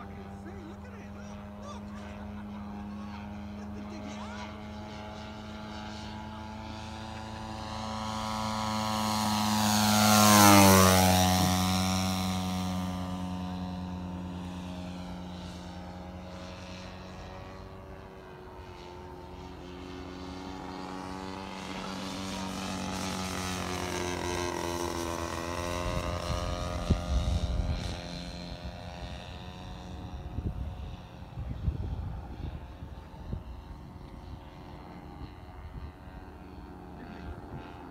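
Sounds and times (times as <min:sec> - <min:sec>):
model plane engine drone: 0:00.0 - 0:37.9.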